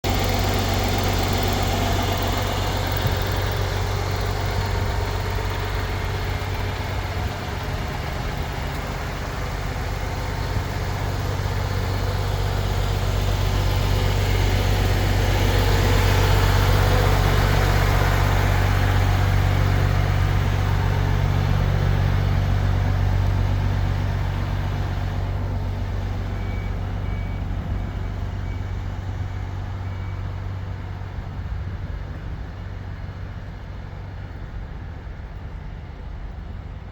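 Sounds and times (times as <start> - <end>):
diesel truck engine rumbling: 0.0 - 36.9.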